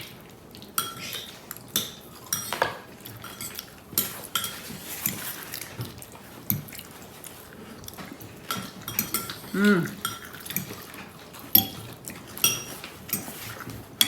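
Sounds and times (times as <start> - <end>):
cutlery clinking on plates: 0.8 - 6.8, 7.9 - 13.8.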